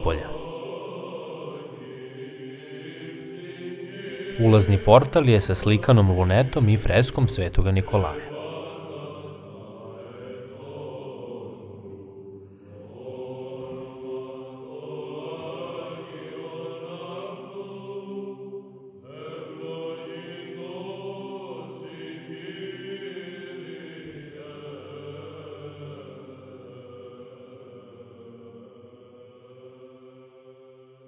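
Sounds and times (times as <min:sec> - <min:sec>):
voices singing slow chant: 0:00.0 - 0:31.0.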